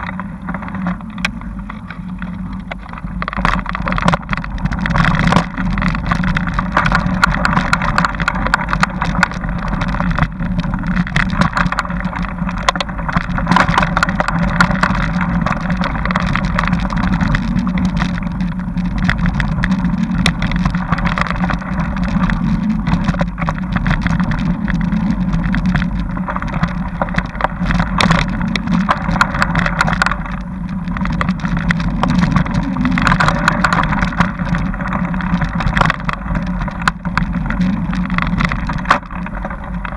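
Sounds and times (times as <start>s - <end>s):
bike rattling on dirt trail: 0.0s - 39.9s.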